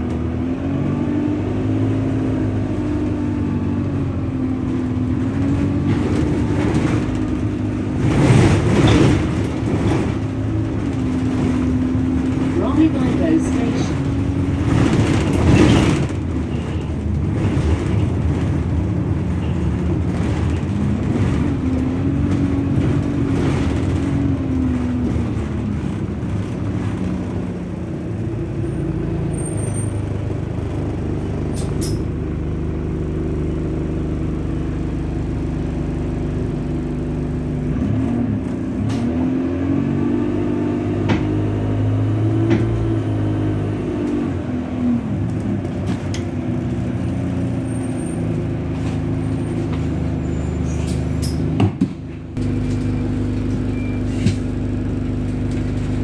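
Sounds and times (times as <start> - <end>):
bus engine and road drone: 0.0 - 56.0.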